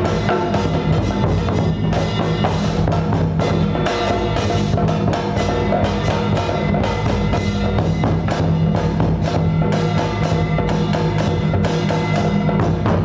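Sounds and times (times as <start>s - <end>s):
drums: 0.0s - 13.0s
wood block percussion: 0.0s - 13.0s.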